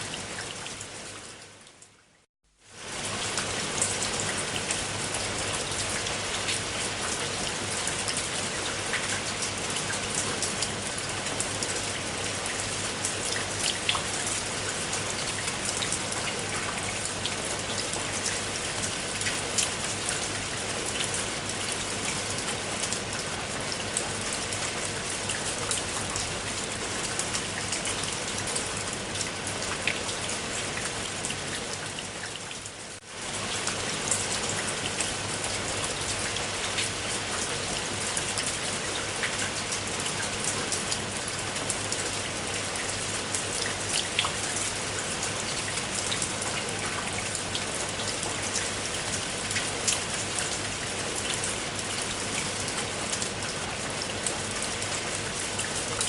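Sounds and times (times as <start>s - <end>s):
raindrops striking a surface: 0.0s - 56.0s
steady rain hiss: 0.0s - 56.0s.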